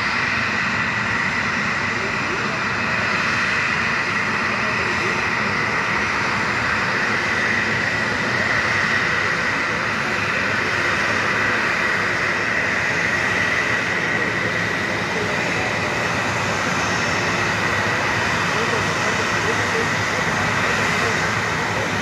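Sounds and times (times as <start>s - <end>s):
jet engines running with whine: 0.0s - 22.0s.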